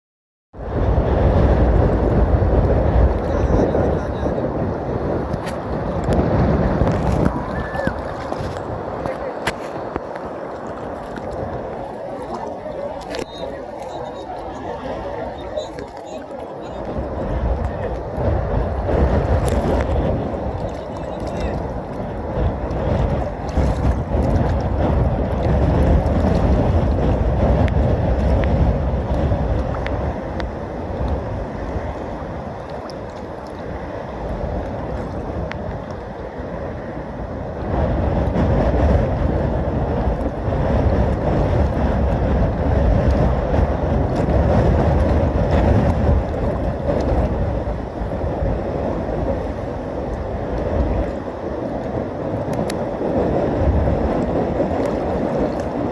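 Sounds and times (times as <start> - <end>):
ocean surf washing: 0.6 - 55.9
wind buffeting microphone: 0.6 - 55.9.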